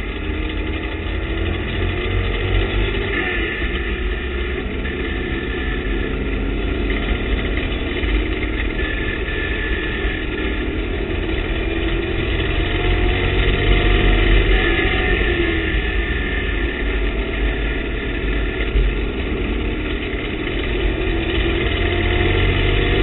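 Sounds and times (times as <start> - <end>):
race car engine running: 0.0 - 23.0
road and wind noise: 0.0 - 23.0.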